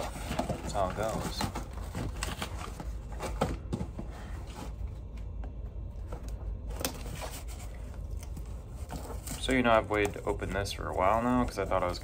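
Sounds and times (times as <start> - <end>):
cardboard rustling and scraping: 0.0 - 5.0, 6.0 - 12.0.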